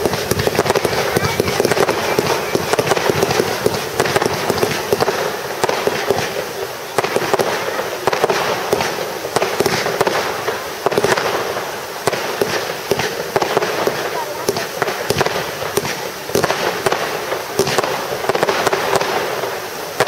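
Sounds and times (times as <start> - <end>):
fireworks crackling and hissing: 0.0 - 20.0
sharp firework pops: 0.0 - 20.0.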